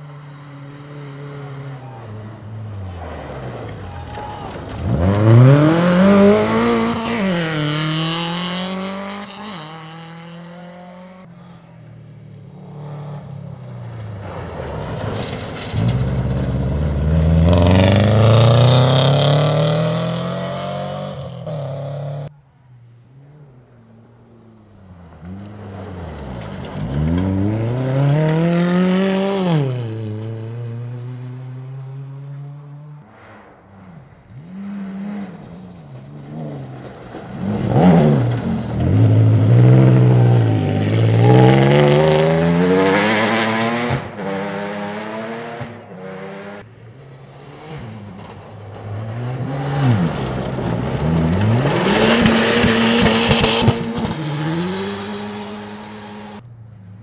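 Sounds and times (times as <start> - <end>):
rally cars passing at speed: 0.0 - 57.0.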